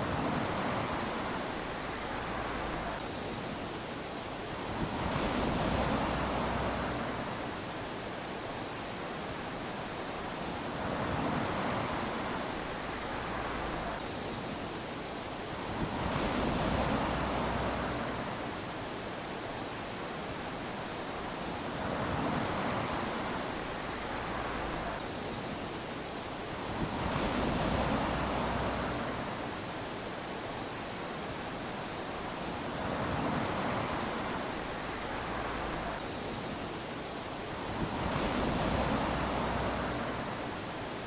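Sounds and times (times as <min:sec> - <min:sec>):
hiss of surf: 0:00.0 - 0:41.0
small waves lapping on shore: 0:00.0 - 0:41.0.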